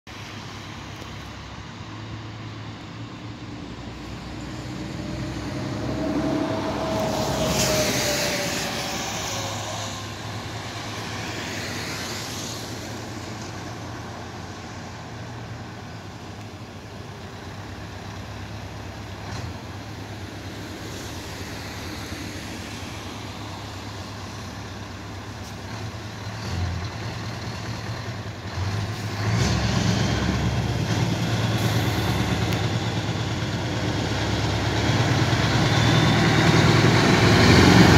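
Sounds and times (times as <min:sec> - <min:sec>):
truck engine rumbling: 0:00.1 - 0:37.9
vehicles swishing past: 0:00.1 - 0:37.9.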